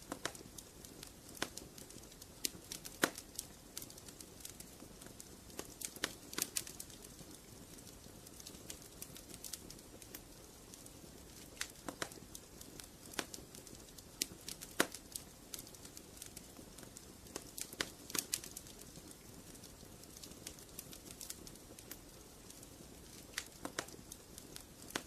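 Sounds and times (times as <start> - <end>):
fire crackling in fireplace: 0.0 - 25.0.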